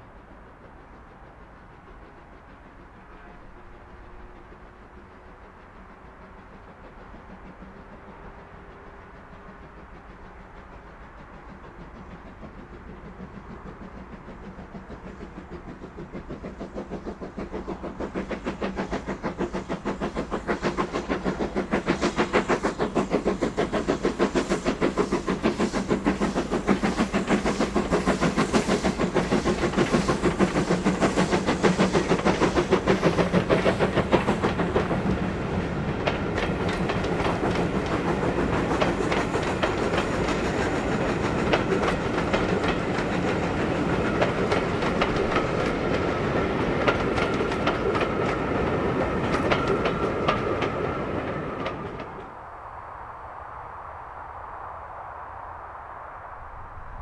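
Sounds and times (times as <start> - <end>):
steam locomotive exhaust beats: 0.0 - 52.5
train wheels clattering over rail joints: 0.6 - 52.3.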